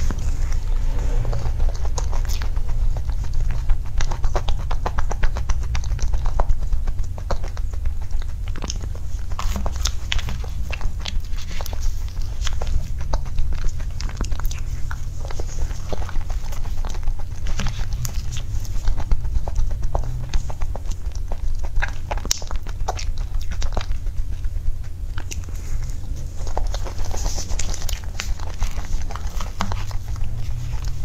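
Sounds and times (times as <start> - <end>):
steady low rumble: 0.0 - 31.0
wet chewing clicks and smacks: 1.7 - 31.0.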